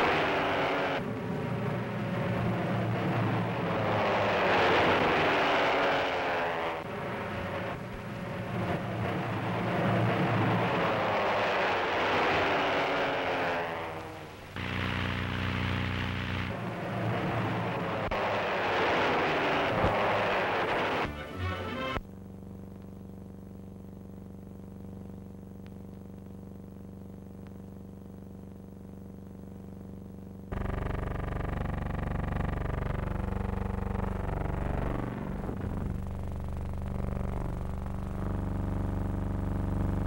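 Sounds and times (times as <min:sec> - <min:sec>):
biplane engine droning overhead: 0:00.0 - 0:40.0.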